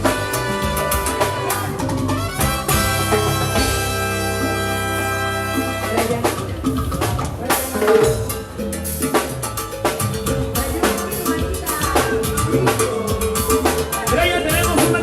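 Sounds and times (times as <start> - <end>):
drum kit playing: 0.0 - 15.0
live band playing: 0.0 - 15.0.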